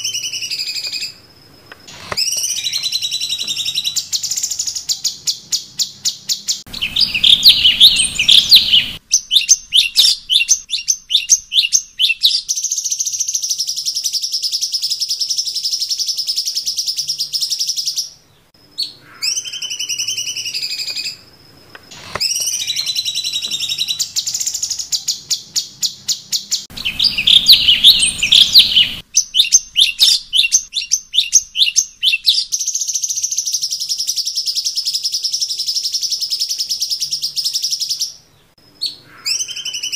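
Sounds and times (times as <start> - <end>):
bird chirping and trilling: 0.0 - 1.3, 1.9 - 21.3, 21.9 - 39.9.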